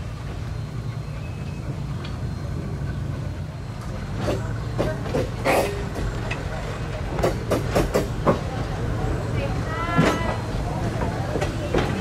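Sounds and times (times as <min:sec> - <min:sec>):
steam train rumbling: 0:00.0 - 0:12.0.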